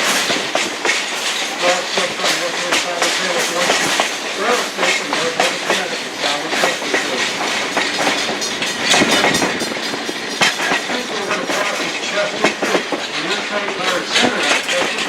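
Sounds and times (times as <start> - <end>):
knocks and rattles of coach: 0.0 - 15.0
train wheels clattering over rails: 0.0 - 15.0.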